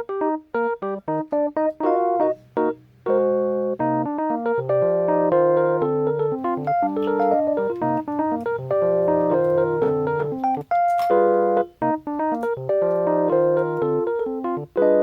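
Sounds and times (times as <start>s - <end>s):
electric piano melody: 0.0s - 15.0s.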